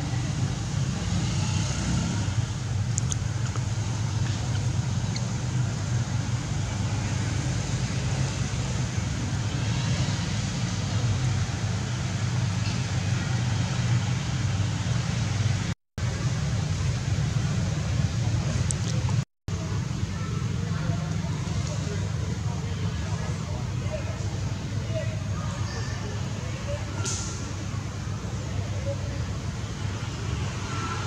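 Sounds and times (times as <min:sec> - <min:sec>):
distant road traffic rumble: 0:00.0 - 0:31.0.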